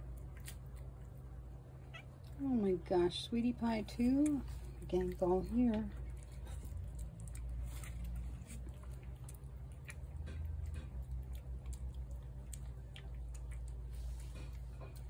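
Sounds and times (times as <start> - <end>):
cat crunching dry kibble: 0.0 - 2.4, 3.8 - 15.0.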